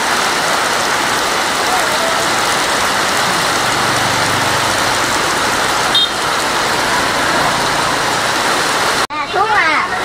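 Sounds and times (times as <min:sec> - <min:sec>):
heavy rain pouring: 0:00.0 - 0:10.0
motorbikes passing: 0:00.6 - 0:09.1.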